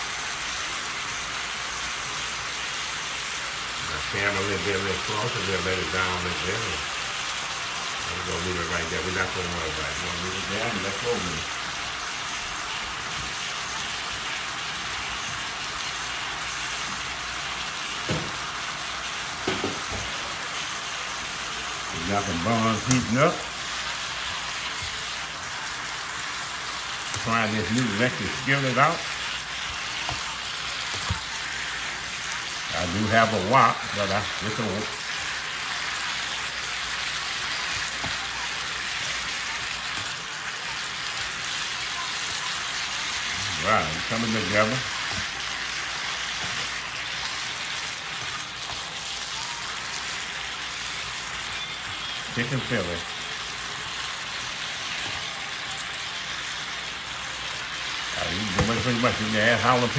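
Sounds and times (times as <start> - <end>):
food sizzling in a skillet: 0.0 - 59.9
spatula stirring food: 11.5 - 59.9.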